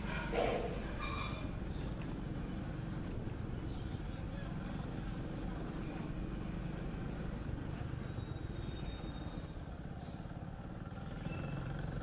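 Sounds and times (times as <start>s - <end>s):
motorcycle engine running: 1.6s - 12.0s.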